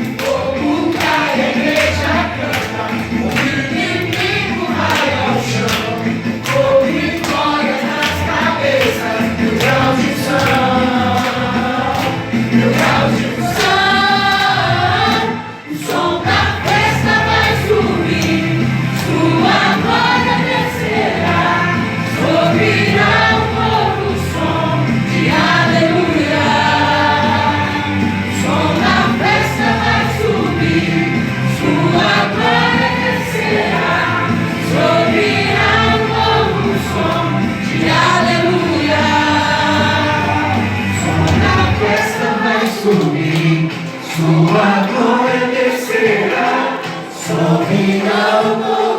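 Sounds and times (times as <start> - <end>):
choir singing over a band: 0.0 - 48.9.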